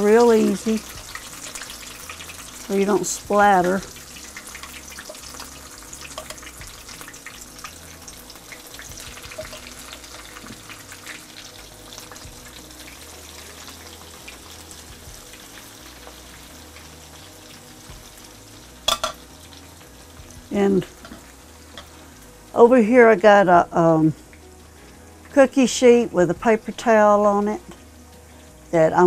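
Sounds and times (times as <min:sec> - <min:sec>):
okra deep frying in oil: 0:00.0 - 0:29.0.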